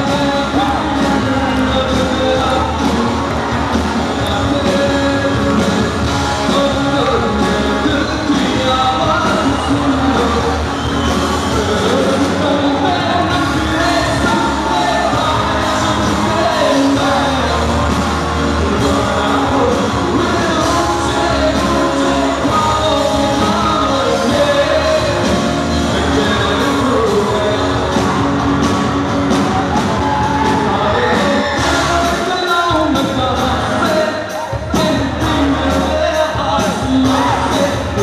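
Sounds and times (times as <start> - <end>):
acoustic and electric guitars: 0.0 - 38.0
bass guitar: 0.0 - 38.0
drums: 0.0 - 38.0
singer singing: 0.0 - 38.0.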